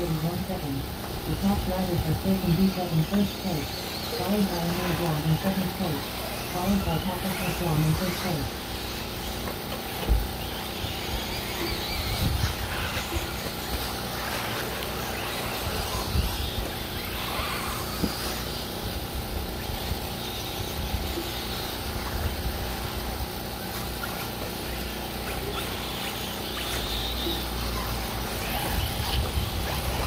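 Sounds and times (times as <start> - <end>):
electric motor and drivetrain whine: 0.0 - 30.0
tyres on dirt: 0.0 - 30.0.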